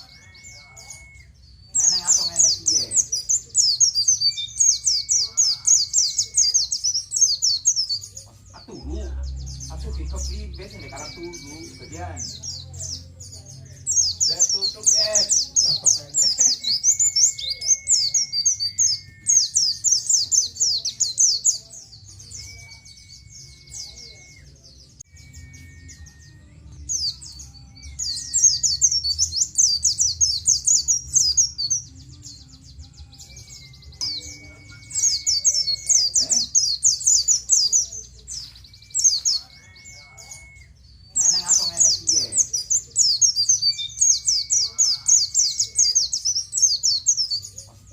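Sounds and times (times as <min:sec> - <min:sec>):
bird rapid high chirping song: 0:00.0 - 0:47.9.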